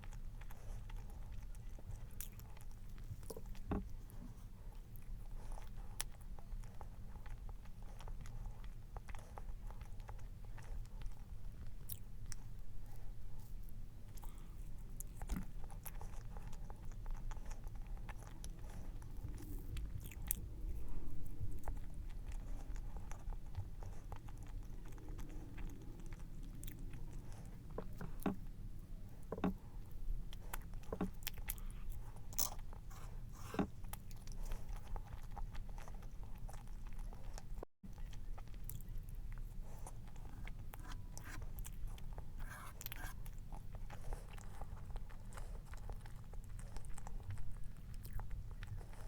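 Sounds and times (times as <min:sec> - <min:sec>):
chewing cake: 0:00.0 - 0:49.0.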